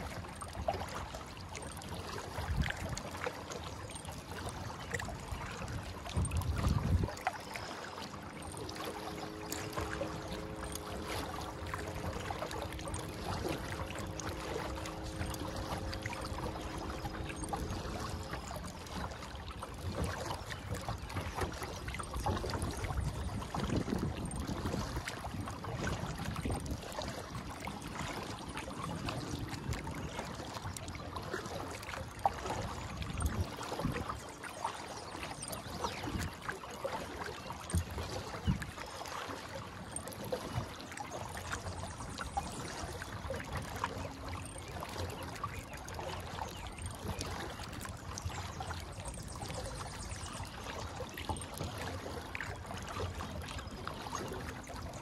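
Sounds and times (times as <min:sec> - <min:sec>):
paddle splashing water: 0:00.0 - 0:55.0
water trickling along hull: 0:00.0 - 0:55.0.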